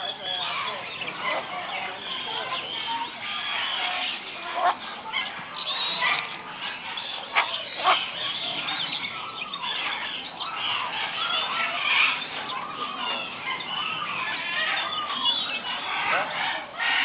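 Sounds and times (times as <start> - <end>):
birds squawking and honking: 0.0 - 17.0.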